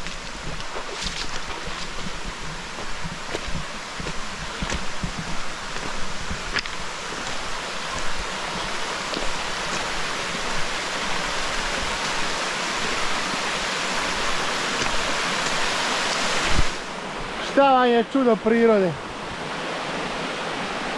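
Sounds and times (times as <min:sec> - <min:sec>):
spring water rushing: 0:00.0 - 0:20.9.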